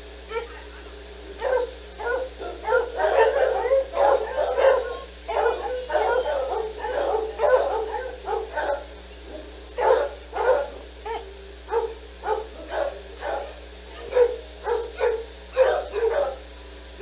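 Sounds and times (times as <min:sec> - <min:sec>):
dogs barking and yipping: 0:00.3 - 0:16.5.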